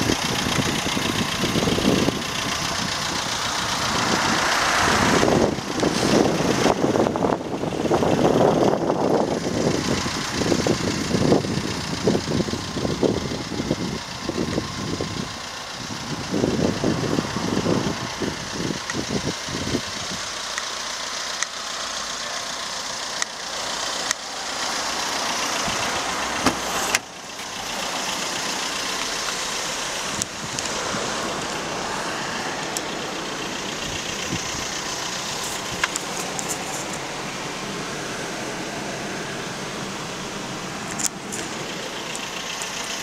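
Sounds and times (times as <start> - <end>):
passing road traffic: 0.0 - 43.0.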